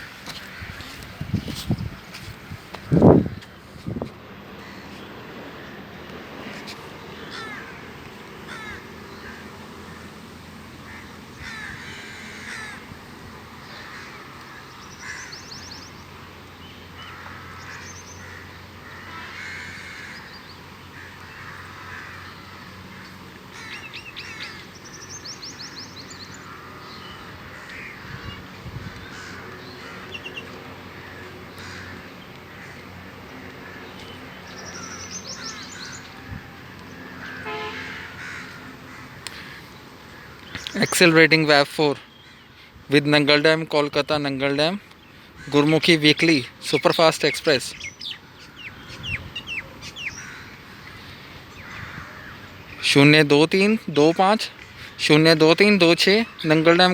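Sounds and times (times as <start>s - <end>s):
crows cawing: 0.0s - 3.5s, 4.5s - 10.2s, 10.8s - 16.1s, 16.9s - 56.9s.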